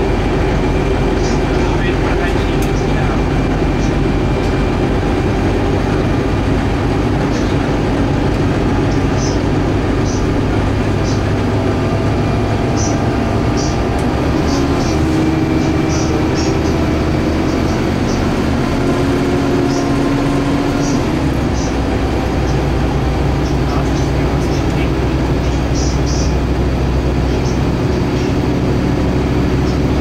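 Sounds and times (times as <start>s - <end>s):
bus diesel engine drone: 0.0s - 30.0s
road and tyre noise: 0.0s - 30.0s.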